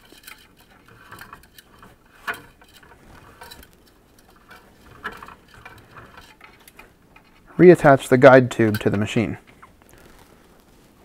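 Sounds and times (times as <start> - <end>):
plastic filament clicks and rustles: 0.0 - 10.6.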